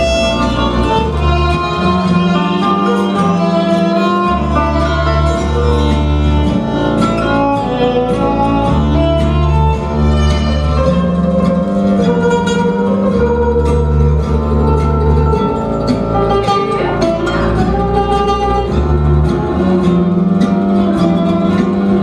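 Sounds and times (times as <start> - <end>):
guitar-led string band music: 0.0 - 22.0.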